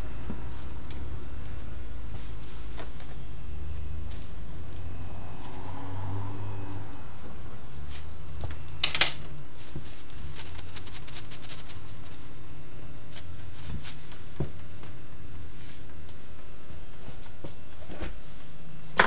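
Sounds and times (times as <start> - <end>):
duster brushing strokes: 0.0 - 8.4, 9.4 - 18.6
steady low hum: 0.0 - 19.0.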